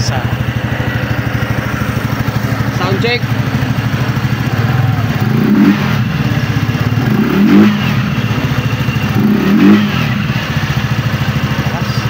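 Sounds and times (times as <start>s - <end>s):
scooter engine idling and revving: 0.0s - 12.0s.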